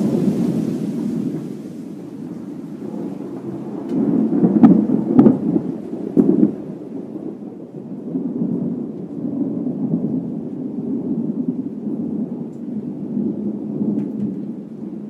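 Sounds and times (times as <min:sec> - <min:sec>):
rain: 0:00.0 - 0:15.0
sharp thunder cracks: 0:00.0 - 0:15.0
thunder rumbling: 0:00.0 - 0:15.0.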